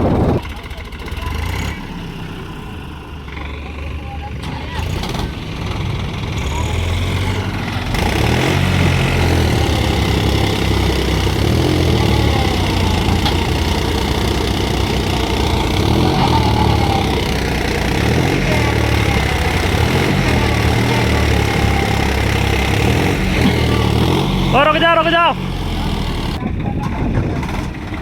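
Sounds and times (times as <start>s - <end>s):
tractor diesel engine labouring: 0.0s - 28.0s.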